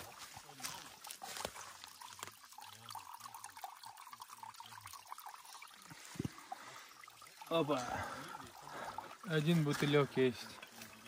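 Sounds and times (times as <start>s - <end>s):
water gurgling into bottle: 0.9s - 11.0s.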